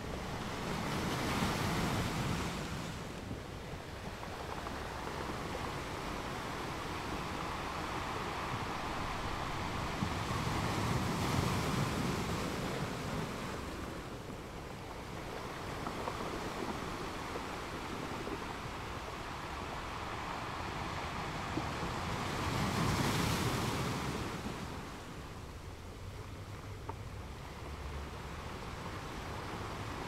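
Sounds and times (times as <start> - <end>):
waves crashing on rocky beach: 0.0 - 30.0.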